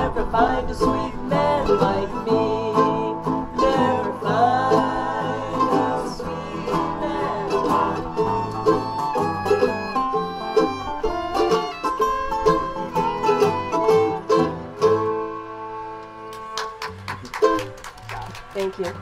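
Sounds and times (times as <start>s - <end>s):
acoustic string band playing: 0.0s - 19.0s.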